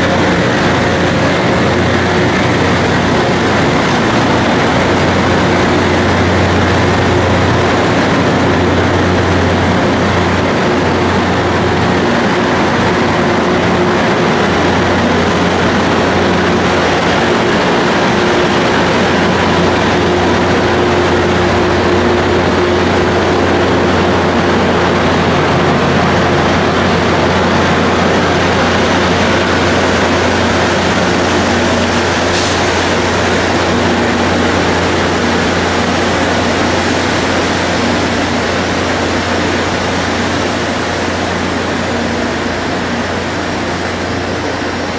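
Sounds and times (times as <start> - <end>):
low hum: 0.0 - 44.9
train passing rolling rush: 0.0 - 44.9.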